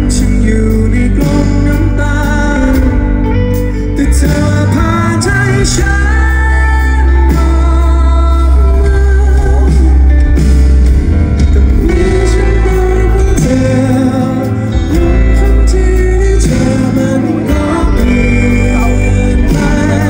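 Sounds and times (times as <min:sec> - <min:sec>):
man singing: 0:00.0 - 0:10.6, 0:11.4 - 0:20.0
guitar: 0:00.0 - 0:20.0
heavy bass: 0:00.0 - 0:20.0.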